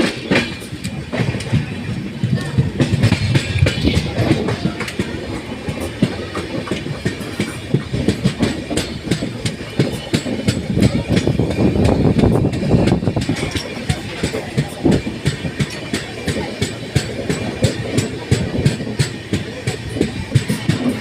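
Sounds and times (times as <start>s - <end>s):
train rumbling on track: 0.0s - 21.0s
wheels clattering over rails: 0.0s - 21.0s.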